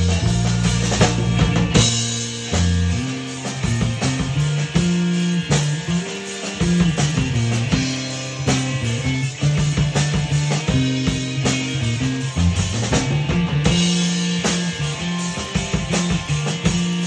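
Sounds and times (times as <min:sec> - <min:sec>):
bass line: 0:00.0 - 0:17.0
drum beat: 0:00.0 - 0:17.0
guitar: 0:00.0 - 0:17.0.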